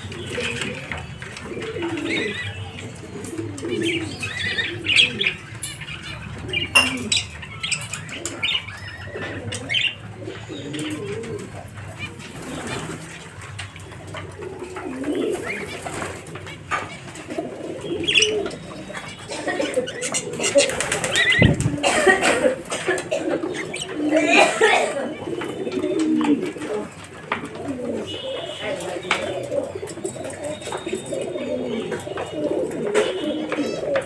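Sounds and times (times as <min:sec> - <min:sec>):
pigeons cooing: 0:00.0 - 0:34.0.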